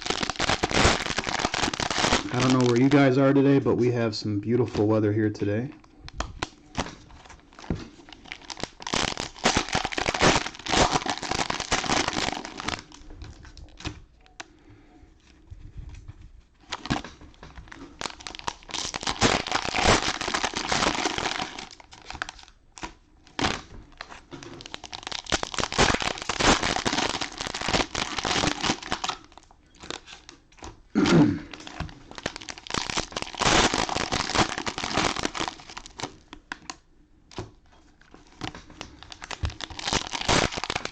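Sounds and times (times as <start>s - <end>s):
cellophane wrappers crinkling: 0.0s - 3.6s, 5.6s - 14.6s, 15.2s - 30.8s, 31.5s - 40.9s.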